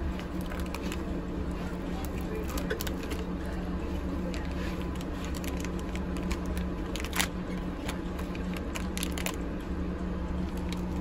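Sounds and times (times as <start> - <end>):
cling film crinkling: 0.1 - 3.3, 4.2 - 9.6, 10.4 - 11.0.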